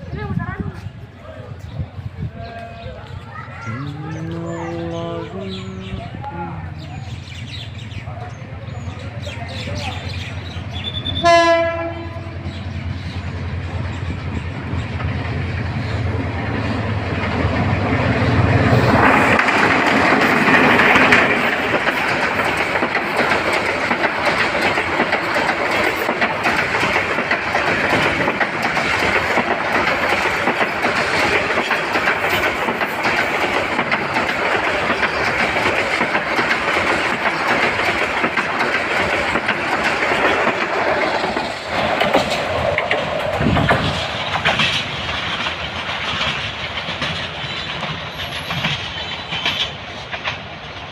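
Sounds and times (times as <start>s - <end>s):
train engine hum: 0.0s - 50.9s
wheels clacking over rail joints: 5.5s - 50.9s
carriages rushing past: 6.6s - 50.9s.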